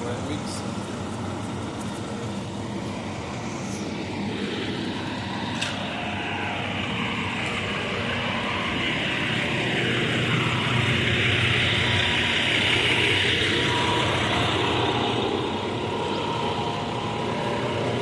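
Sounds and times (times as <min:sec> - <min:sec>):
engine-driven machinery running: 0:00.0 - 0:18.0.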